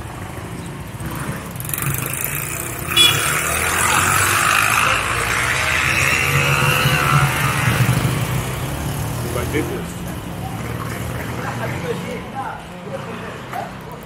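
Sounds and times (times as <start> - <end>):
motor vehicle running: 0.0 - 14.0.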